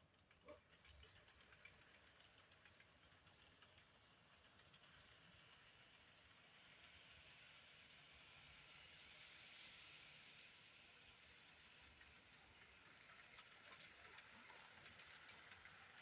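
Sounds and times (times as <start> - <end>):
model train whirring: 0.0 - 16.0
wheels clicking on rails: 0.0 - 16.0.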